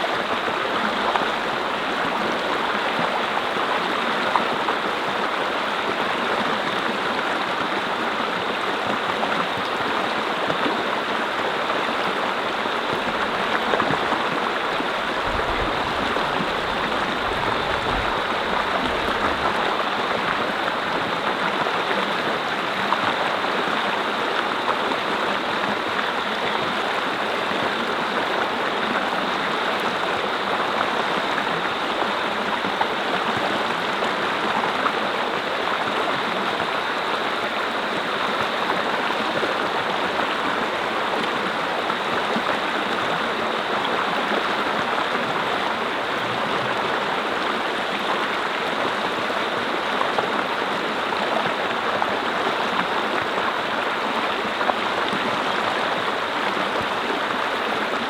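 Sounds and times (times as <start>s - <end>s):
brook flowing over rocks: 0.0s - 58.0s.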